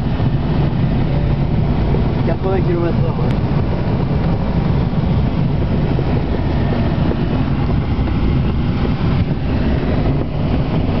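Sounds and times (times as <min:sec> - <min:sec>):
air rushing around cockpit: 0:00.0 - 0:11.0
wind buffeting microphone: 0:00.0 - 0:11.0.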